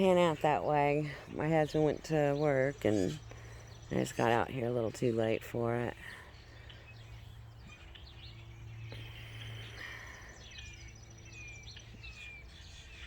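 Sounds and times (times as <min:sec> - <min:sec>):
steady low hum: 0:00.0 - 0:13.0
small birds chirping and whistling: 0:00.9 - 0:13.0.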